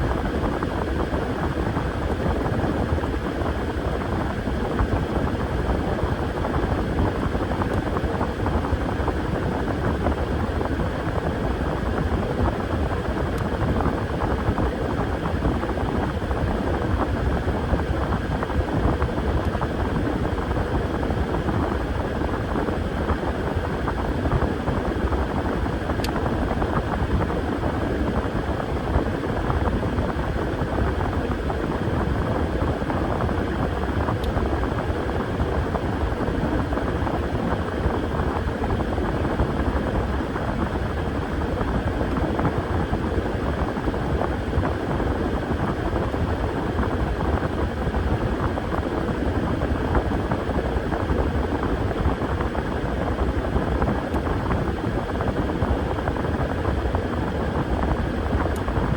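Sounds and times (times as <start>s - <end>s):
washing machine running: 0.0s - 58.9s.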